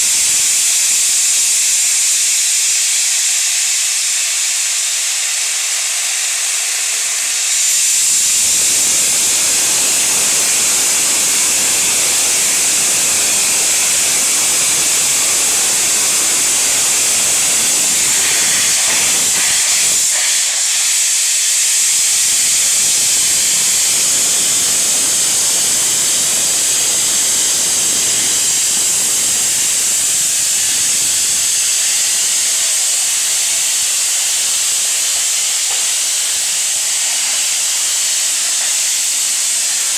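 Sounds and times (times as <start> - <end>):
steam locomotive hissing steam: 0.0 - 39.9.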